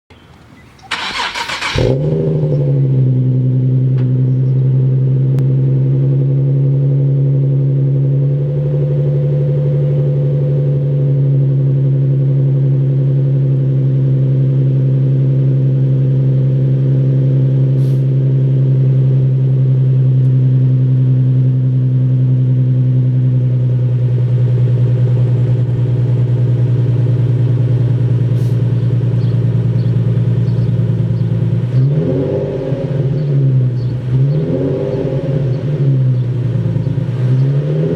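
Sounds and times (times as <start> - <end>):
car engine idling and revving: 0.2 - 37.9.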